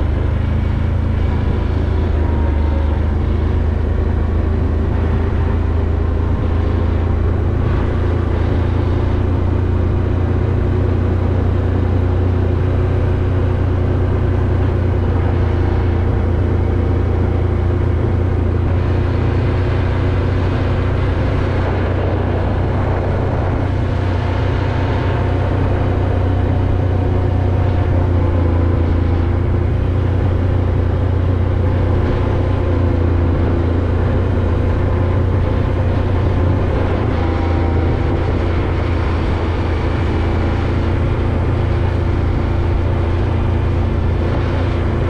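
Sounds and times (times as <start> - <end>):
atv engine droning: 0.0 - 45.0
rough ride noise: 0.0 - 45.0.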